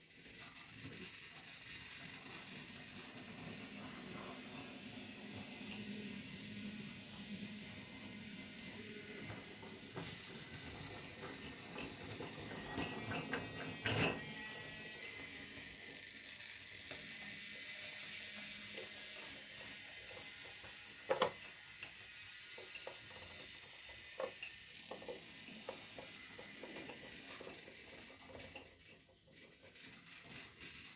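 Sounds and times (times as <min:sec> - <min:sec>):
toy train motor whirring: 0:00.0 - 0:30.9.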